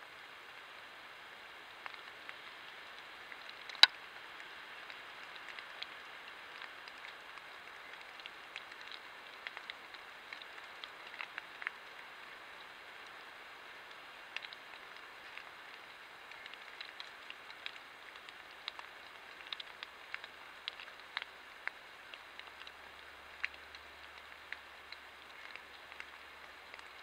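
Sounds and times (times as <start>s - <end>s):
faint ticks and crackles: 0.0s - 27.0s
microphone hiss: 0.0s - 27.0s.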